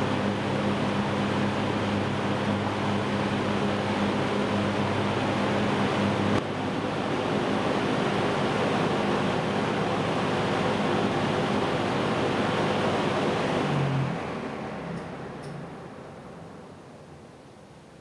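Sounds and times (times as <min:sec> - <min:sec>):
box fan running: 0:00.0 - 0:18.0.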